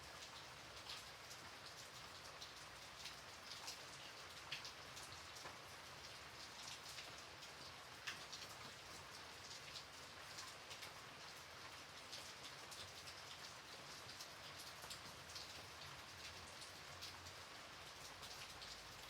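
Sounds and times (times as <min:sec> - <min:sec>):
gentle rain hiss: 0:00.0 - 0:19.0
raindrops ticking on a surface: 0:00.0 - 0:19.0.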